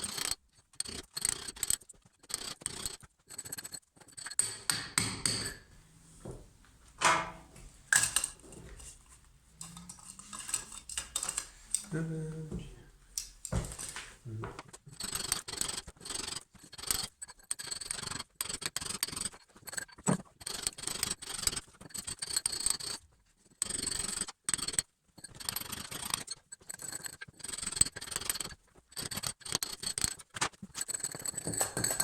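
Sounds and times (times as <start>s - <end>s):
chisel scraping brick and plaster: 0.0s - 5.7s, 8.0s - 11.8s, 14.7s - 32.0s.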